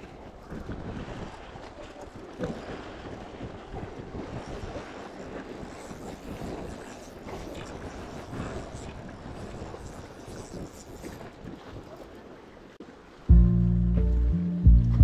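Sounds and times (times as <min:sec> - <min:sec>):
wind buffeting microphone: 0:00.0 - 0:12.1.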